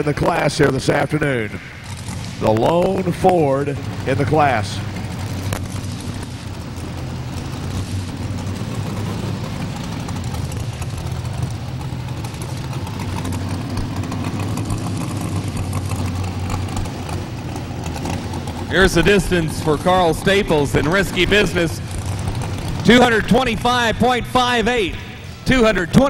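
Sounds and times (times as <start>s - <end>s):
arena background noise: 0.0s - 26.0s
truck engine running steadily: 0.0s - 26.0s.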